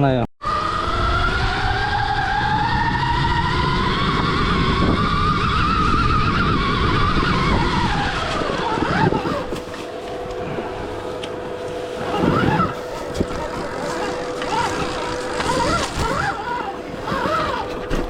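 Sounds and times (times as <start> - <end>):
tyres and wind rumble: 0.0 - 18.0
electric motorbike motor whining: 0.4 - 18.0.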